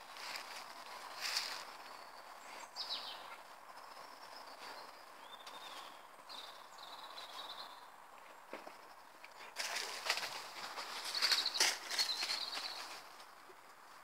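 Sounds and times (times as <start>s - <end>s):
small birds chirping: 0.1s - 9.6s, 10.2s - 13.2s.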